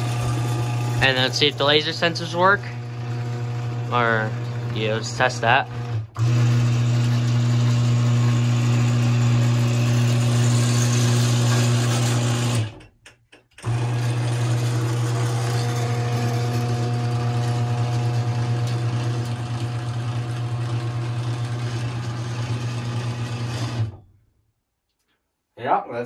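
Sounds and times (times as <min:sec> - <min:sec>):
garage door opener motor humming: 0:00.0 - 0:12.9, 0:13.6 - 0:24.0.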